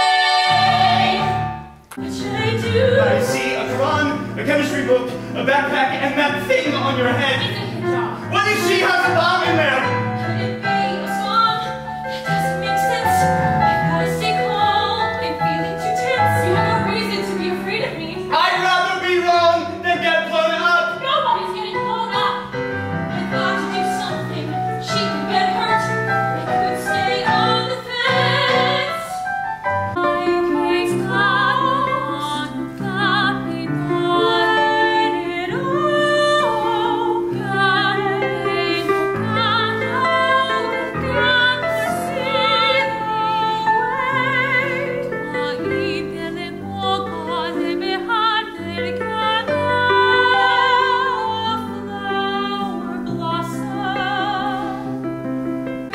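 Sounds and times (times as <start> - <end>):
women singing operatically: 0.0 - 4.4, 5.7 - 18.9, 20.5 - 29.3, 30.0 - 55.0.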